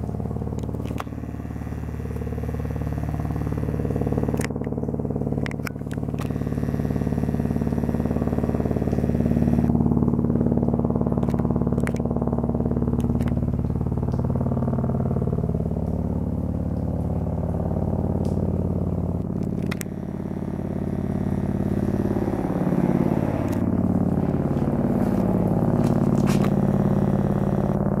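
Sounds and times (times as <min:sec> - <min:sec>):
helicopters flying overhead: 0:00.0 - 0:28.0.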